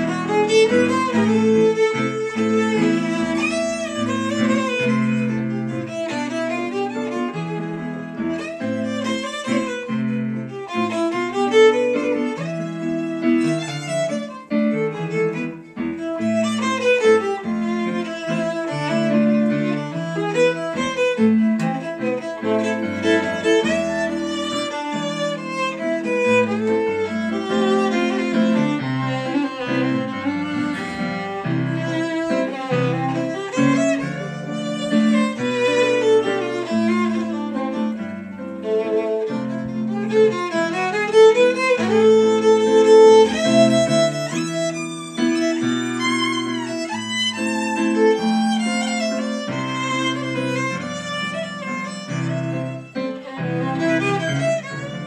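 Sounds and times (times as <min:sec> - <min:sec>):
fiddle waltz melody: 0:00.0 - 0:55.0
keyboard accompaniment: 0:00.0 - 0:55.0.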